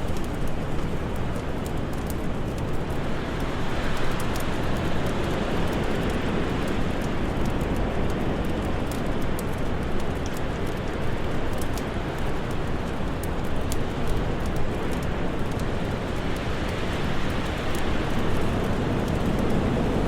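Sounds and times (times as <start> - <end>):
rushing wind: 0.0 - 20.0
wood fire crackling: 0.0 - 20.0.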